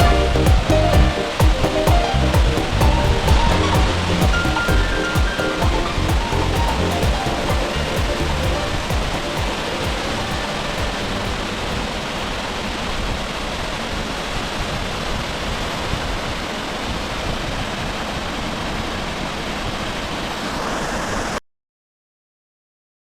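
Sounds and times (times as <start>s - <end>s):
waterfall rushing roar: 0.0s - 21.4s.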